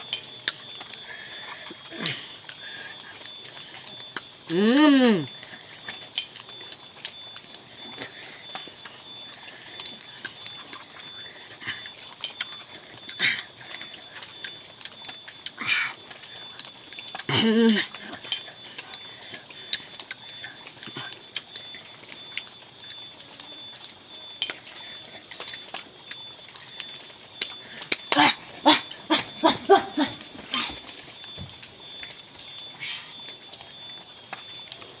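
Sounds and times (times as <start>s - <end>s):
high-pitched hum: 0.0s - 35.0s.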